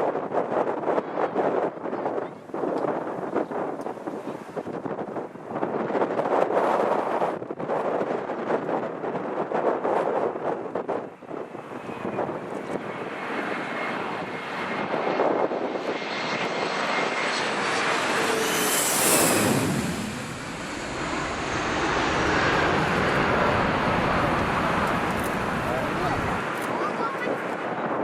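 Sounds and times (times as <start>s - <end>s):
jet airliner passing: 0.1s - 28.0s.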